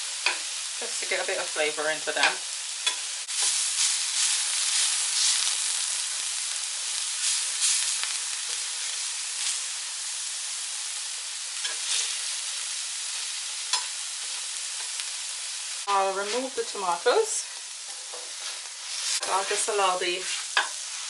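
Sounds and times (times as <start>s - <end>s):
vegetables sizzling on hot plate: 0.0s - 21.0s.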